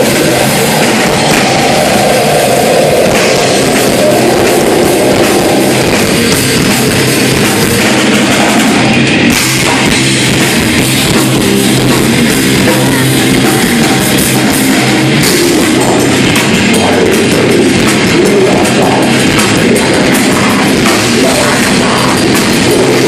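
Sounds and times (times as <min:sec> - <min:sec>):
distorted guitars: 0:00.0 - 0:23.0
drum kit: 0:00.0 - 0:23.0.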